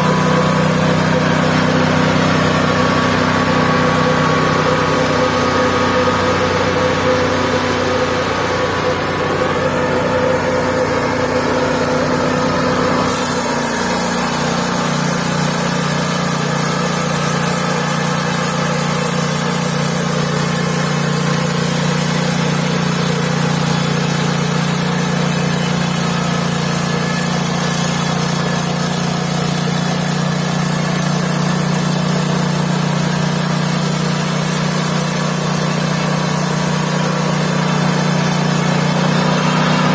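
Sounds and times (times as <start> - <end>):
band sawmill motor running: 0.0 - 39.9.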